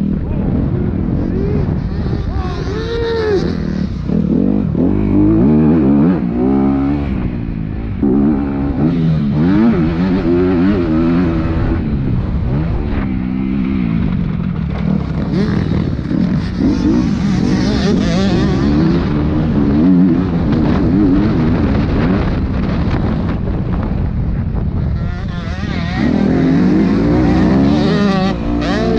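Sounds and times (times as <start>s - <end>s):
motocross bike engine revving: 0.0s - 23.3s, 24.8s - 28.9s.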